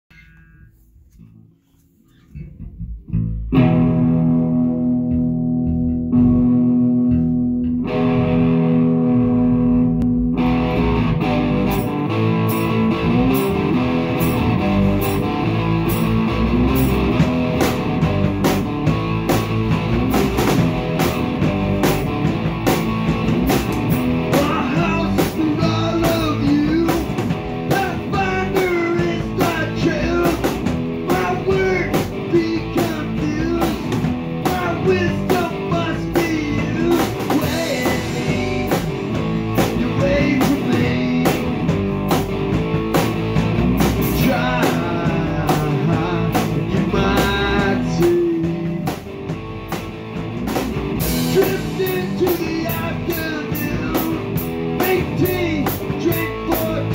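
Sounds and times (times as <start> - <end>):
bass guitar: 0.0 - 56.9
drums: 0.0 - 56.9
bending melodic guitar line: 0.1 - 56.9
electric guitar chords ringing: 2.4 - 56.9.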